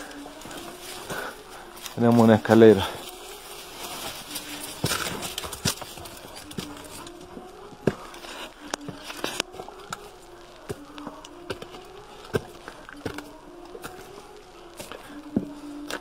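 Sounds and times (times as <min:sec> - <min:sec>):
footsteps on leaf-strewn steps: 0:00.0 - 0:16.0
insects buzzing: 0:00.0 - 0:16.0.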